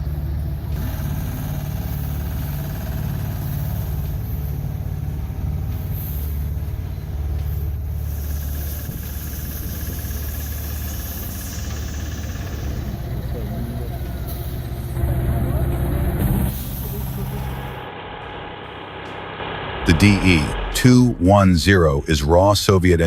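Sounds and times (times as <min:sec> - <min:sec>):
heavy vehicle engine rumbling: 0:00.0 - 0:23.0.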